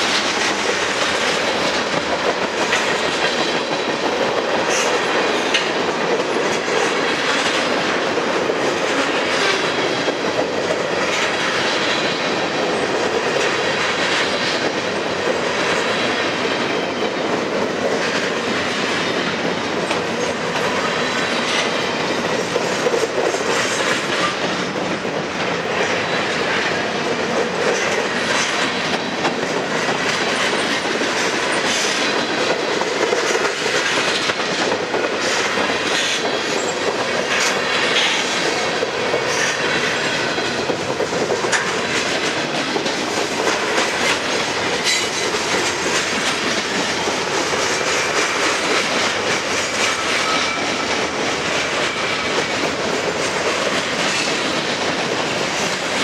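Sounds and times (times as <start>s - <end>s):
freight train wheels rumbling and clattering: 0.0s - 56.0s.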